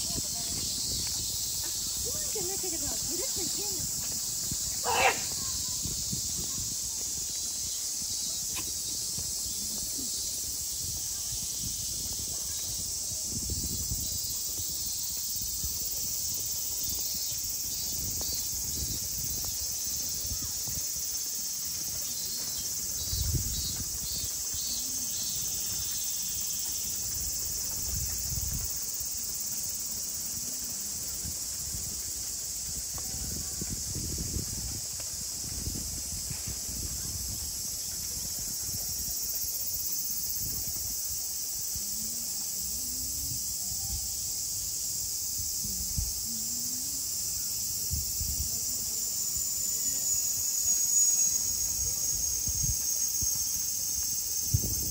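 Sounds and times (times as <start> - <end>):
cicada chorus: 0.0 - 54.9
faint pulsing insect call: 0.0 - 54.9.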